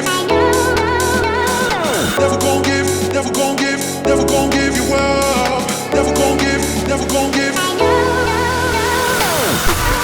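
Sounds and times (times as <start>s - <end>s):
electronic dance music: 0.0s - 10.0s
deep bass line: 0.3s - 9.2s.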